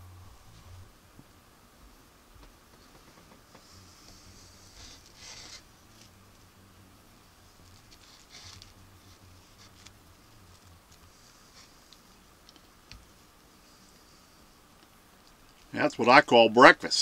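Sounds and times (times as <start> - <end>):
low hum: 0.0 - 15.7
soft rustling of tortilla: 0.3 - 15.8.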